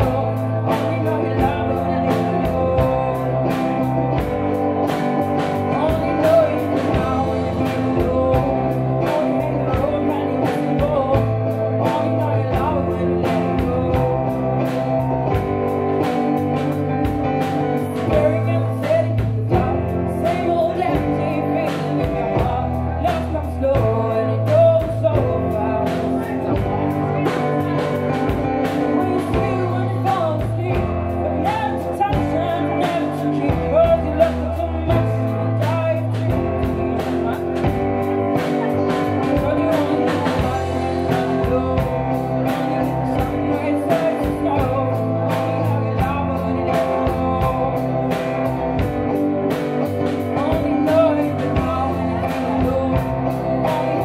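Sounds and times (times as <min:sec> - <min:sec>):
keyboard: 0:00.0 - 0:54.0.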